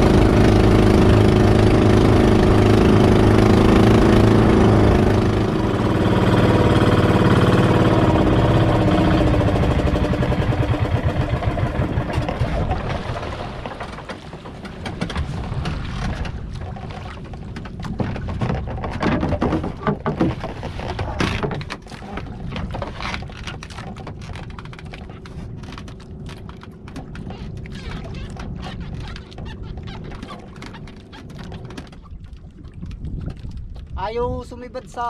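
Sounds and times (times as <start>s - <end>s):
boat engine rumble: 0.0s - 35.0s
knocks and thumps on boat: 0.0s - 35.0s
water splashing at hull: 0.0s - 35.0s.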